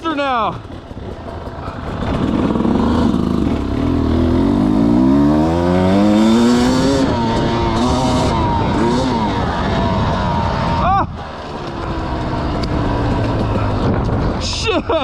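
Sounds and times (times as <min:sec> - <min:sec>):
dirt bike engine accelerating: 0:00.0 - 0:15.0.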